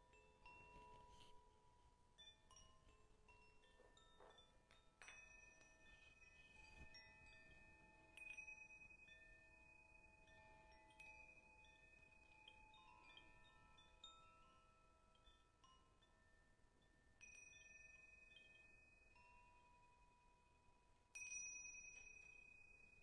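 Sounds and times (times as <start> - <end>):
metal chimes ringing: 0.0 - 23.0.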